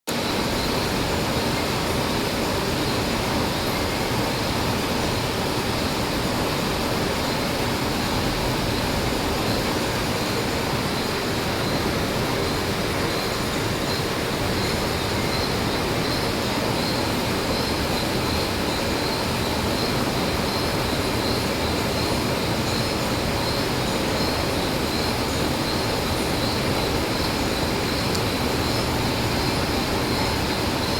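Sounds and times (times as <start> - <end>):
lathe running with high whine: 0.2 - 30.9.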